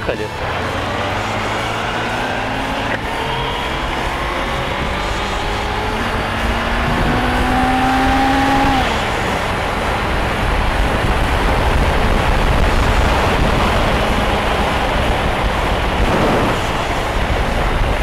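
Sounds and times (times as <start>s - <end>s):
motorcycle engine revving: 0.0s - 18.0s
wind and road noise: 0.0s - 18.0s.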